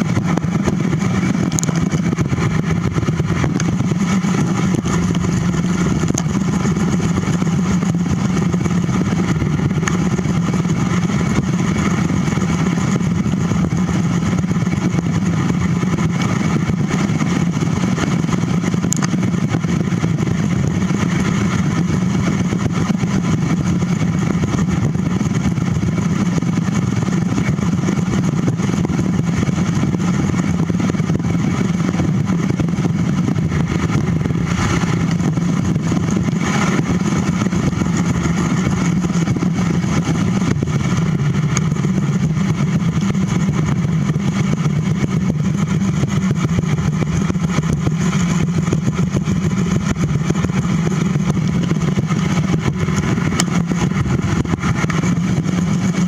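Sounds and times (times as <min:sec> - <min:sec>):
wind rushing: 0:00.0 - 0:47.7
bicycle road rumble: 0:00.0 - 0:56.0.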